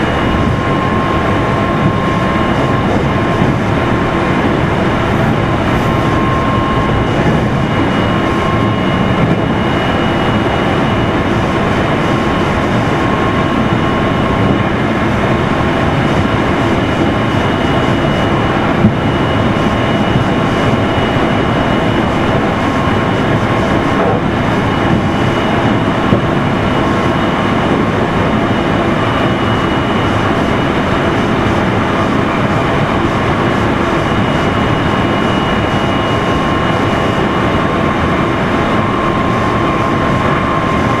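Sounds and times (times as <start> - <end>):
faint motor whine: 0.0 - 41.0
train wheels and motors rumbling: 0.0 - 41.0.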